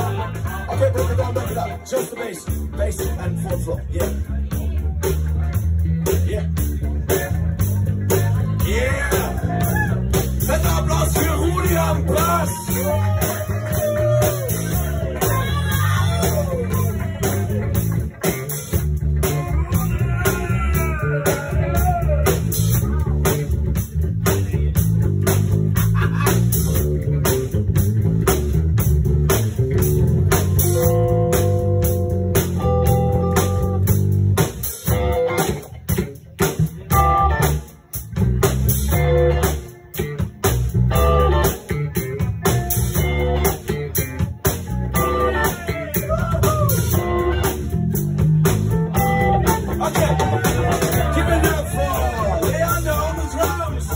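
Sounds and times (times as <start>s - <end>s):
drums: 0.0s - 53.9s
electric guitar: 0.0s - 53.9s
heavy bass line: 0.0s - 53.9s
live band playing loudly: 0.0s - 53.9s.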